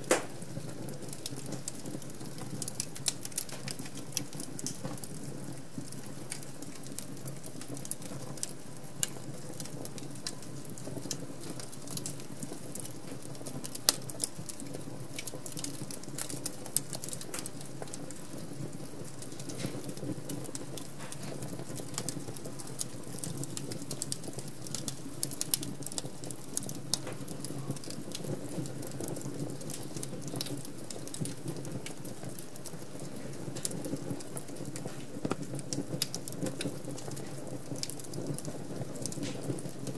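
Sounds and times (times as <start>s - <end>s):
fire snapping and popping: 0.0s - 39.9s
low rush of flame: 0.0s - 39.9s.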